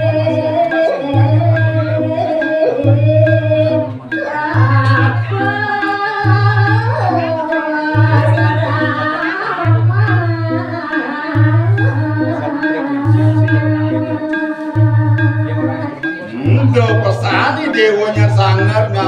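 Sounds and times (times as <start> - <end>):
woman singing into microphone: 0.0 - 17.4
low pulsing beat: 0.0 - 19.0.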